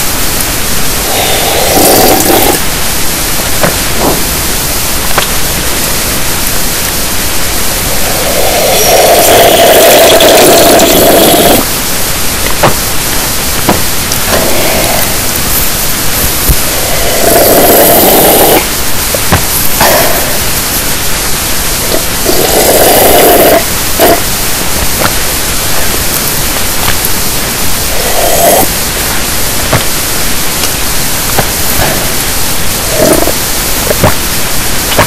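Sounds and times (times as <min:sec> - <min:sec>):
loud static hiss: 0:00.0 - 0:35.0
muffled bursts: 0:00.0 - 0:35.0.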